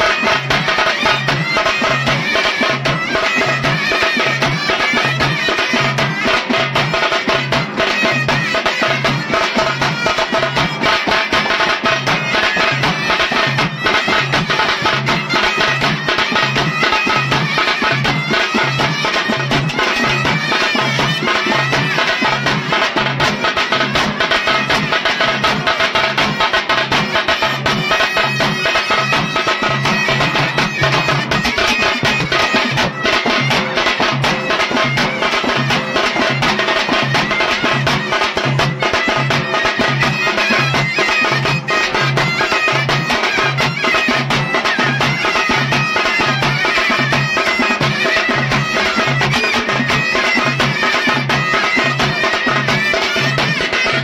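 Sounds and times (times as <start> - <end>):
fast steady drumming: 0.0 - 54.0
folk music wind instrument: 0.0 - 54.0.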